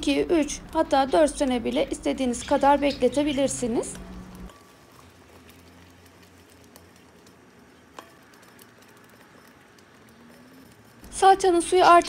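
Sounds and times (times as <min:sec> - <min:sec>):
wooden spoon stirring: 0:00.8 - 0:12.0.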